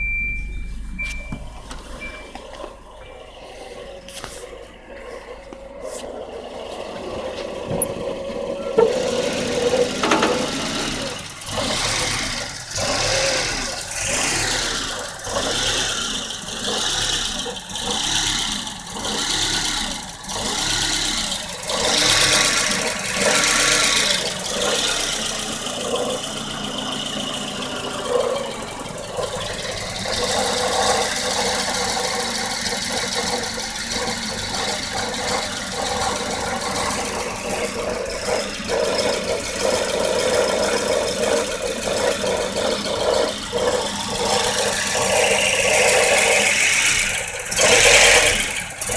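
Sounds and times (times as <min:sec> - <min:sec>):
car engine idling roughly: 0:00.0 - 0:48.9.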